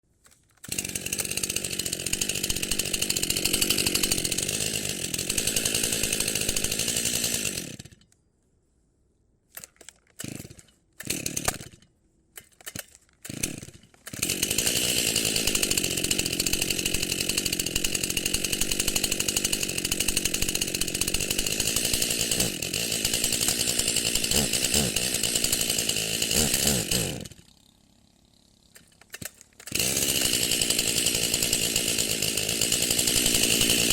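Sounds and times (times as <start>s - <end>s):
chainsaw running: 0.3s - 8.2s, 9.6s - 33.9s.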